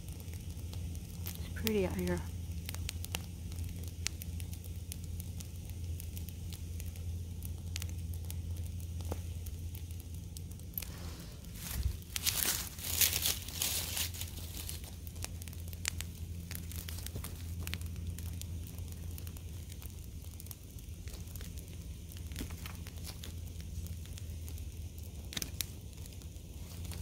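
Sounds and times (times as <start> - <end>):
brush fire crackling and popping: 0.0 - 27.0
steady low hum: 0.0 - 27.0.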